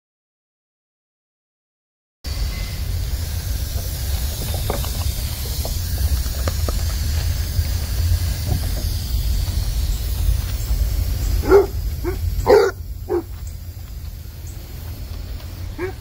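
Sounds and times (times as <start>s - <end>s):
hose nozzle spray hissing: 2.3s - 16.0s
low rumble: 2.3s - 16.0s.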